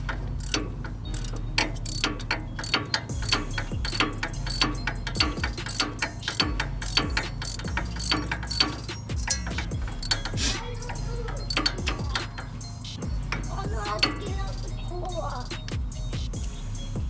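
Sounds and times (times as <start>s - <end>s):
ratchet wrench clicking: 0.1s - 12.6s, 13.4s - 14.6s.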